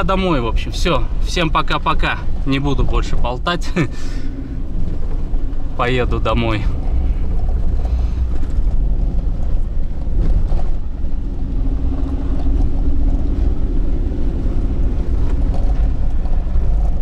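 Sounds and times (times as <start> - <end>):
engine and tyres rumbling on dirt: 0.0 - 17.0.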